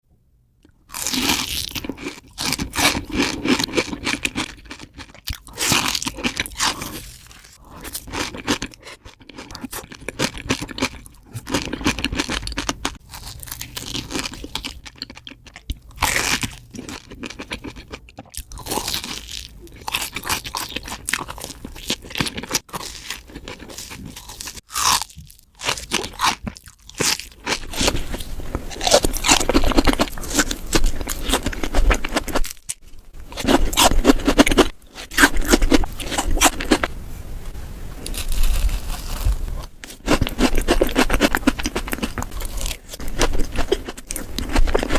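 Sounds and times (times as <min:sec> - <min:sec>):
crunchy chewing: 0:00.9 - 0:36.9, 0:38.0 - 0:44.9.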